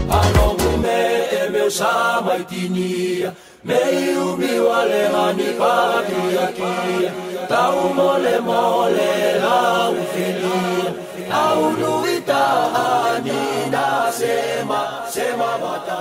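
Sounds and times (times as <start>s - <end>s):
group chanting in harmony: 0.0s - 16.0s.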